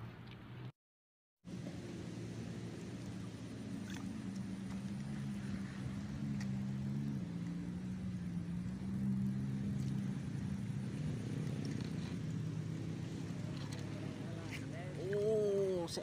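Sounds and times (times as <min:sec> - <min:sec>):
engine humming: 0:01.5 - 0:16.0.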